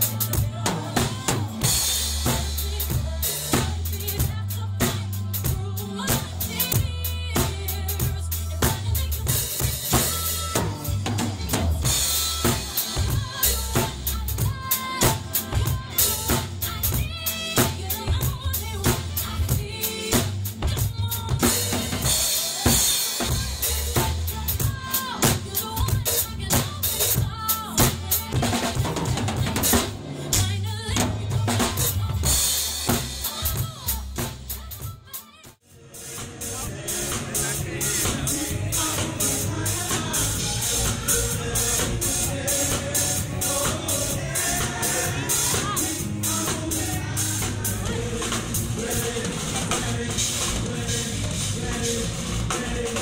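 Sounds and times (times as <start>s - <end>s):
drum kit groove: 0.0s - 53.0s
recorded song with melody: 0.0s - 53.0s.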